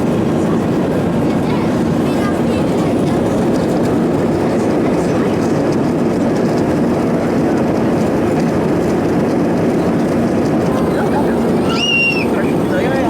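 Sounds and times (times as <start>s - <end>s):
airflow rushing around cabin: 0.0s - 13.0s
jet engines at climb power: 0.0s - 13.0s.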